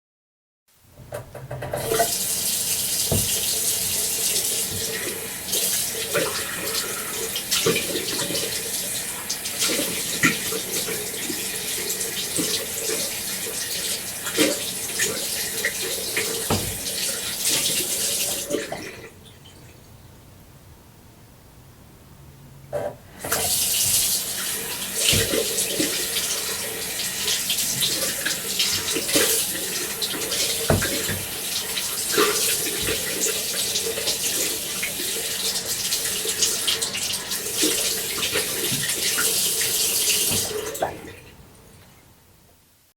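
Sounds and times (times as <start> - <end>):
water running into sink: 1.4 - 19.2, 23.1 - 41.4.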